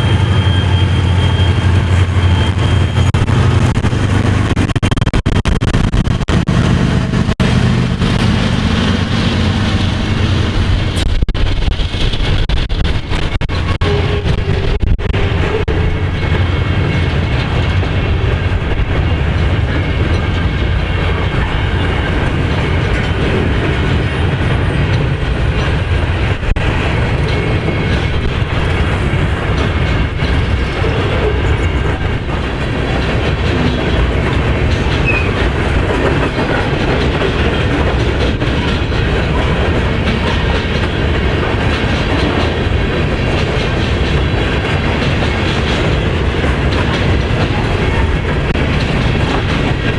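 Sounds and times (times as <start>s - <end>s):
freight train wheels on track: 0.0s - 49.9s.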